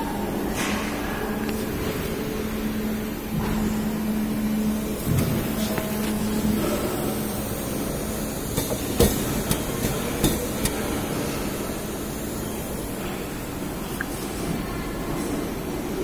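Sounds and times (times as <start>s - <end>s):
printing machine hiss and rumble: 0.0s - 16.0s.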